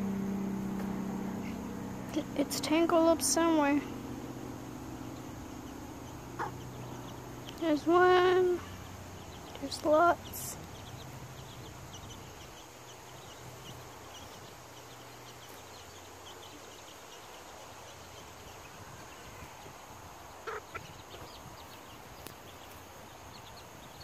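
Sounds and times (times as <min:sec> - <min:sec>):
chickens clucking: 0:04.4 - 0:23.8.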